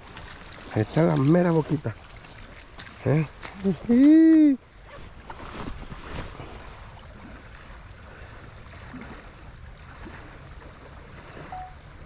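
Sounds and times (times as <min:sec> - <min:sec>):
stream running over gravel: 0:00.0 - 0:12.0.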